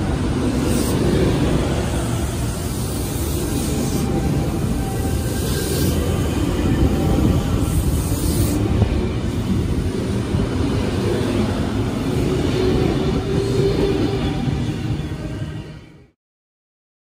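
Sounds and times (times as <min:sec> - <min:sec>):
train wheels rumbling: 0:00.0 - 0:15.5.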